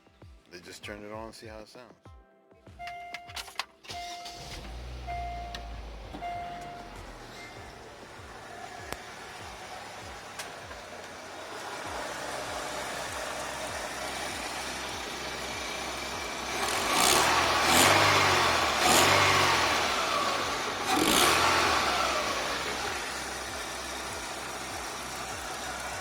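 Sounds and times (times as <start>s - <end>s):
car engine revving: 4.0s - 26.0s
loud intake noise: 4.2s - 26.0s.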